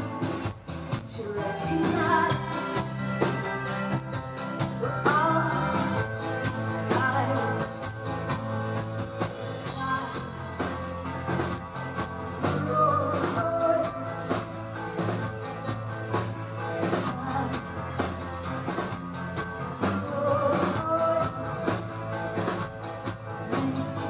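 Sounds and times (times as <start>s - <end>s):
drum kit beat: 0.0s - 24.0s
pop-rock band playing: 0.0s - 24.0s.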